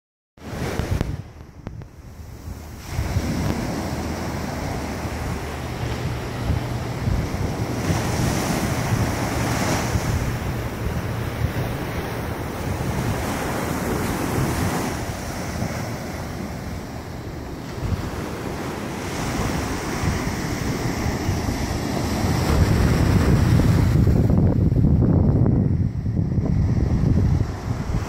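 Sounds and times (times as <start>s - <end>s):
small waves breaking on beach: 0.4s - 24.3s
wind rumbling on microphone: 0.4s - 28.0s.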